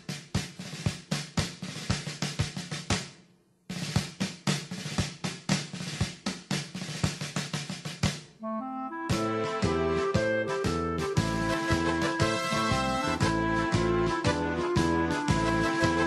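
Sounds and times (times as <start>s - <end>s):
snare and bass drum beating: 0.0s - 8.4s, 9.1s - 16.0s.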